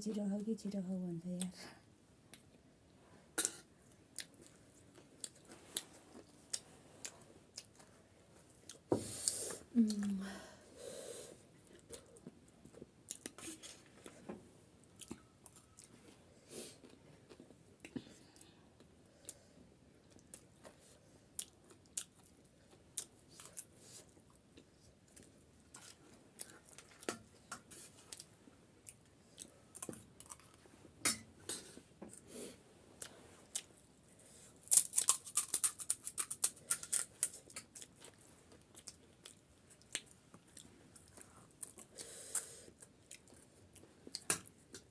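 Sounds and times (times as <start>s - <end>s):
chewing and crunching snack: 3.4s - 10.1s, 11.5s - 19.4s, 20.0s - 30.8s, 33.0s - 44.9s.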